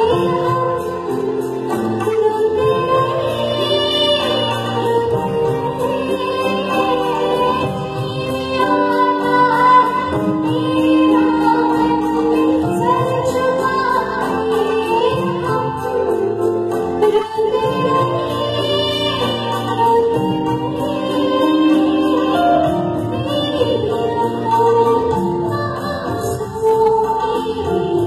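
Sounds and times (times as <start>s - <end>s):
instrumental accompaniment with beat: 0.0s - 28.0s
woman singing: 0.0s - 28.0s.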